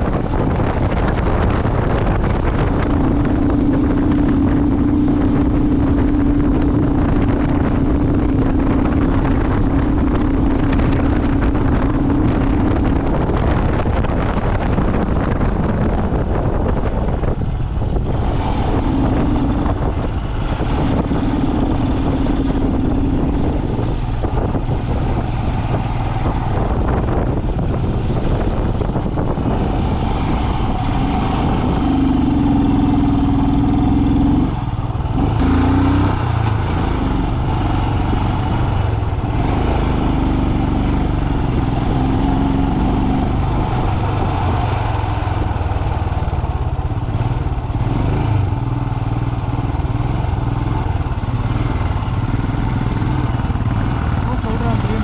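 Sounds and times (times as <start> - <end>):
motorcycle engine: 0.0 - 55.0
wind buffeting microphone: 0.0 - 55.0.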